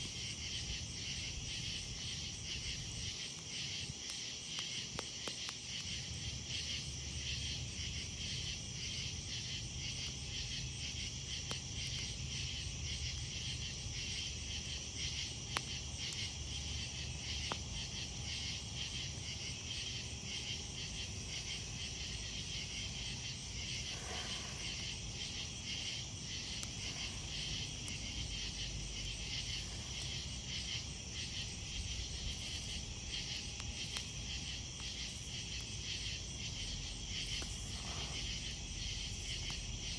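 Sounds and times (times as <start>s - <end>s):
campfire burning: 0.0s - 39.9s
crickets chirping: 0.0s - 39.9s
fire crackles: 0.0s - 39.9s.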